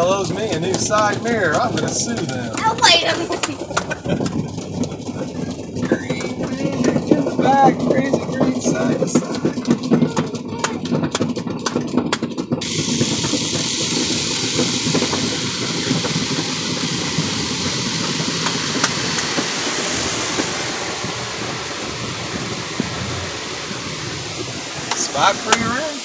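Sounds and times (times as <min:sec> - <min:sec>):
car-wash brushes scrubbing: 0:00.0 - 0:10.5, 0:12.5 - 0:26.0
water spraying onto car: 0:00.0 - 0:26.0.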